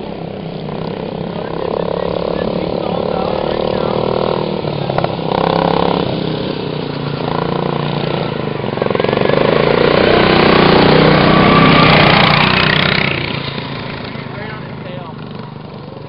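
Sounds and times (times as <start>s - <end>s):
lawn mower engine running: 0.0s - 16.0s.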